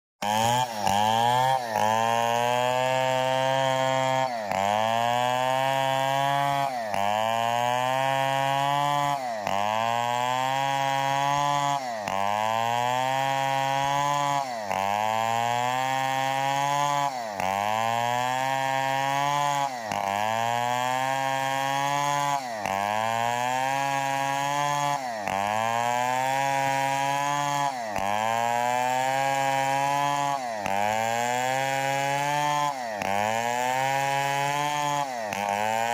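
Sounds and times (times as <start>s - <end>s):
chainsaw cutting timber: 0.2s - 35.9s.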